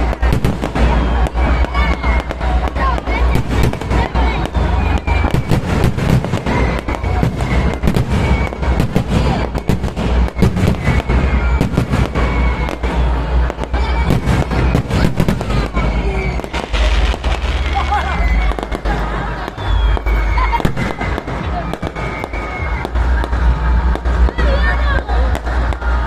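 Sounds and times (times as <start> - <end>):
fireworks banging and crackling: 0.0 - 26.0.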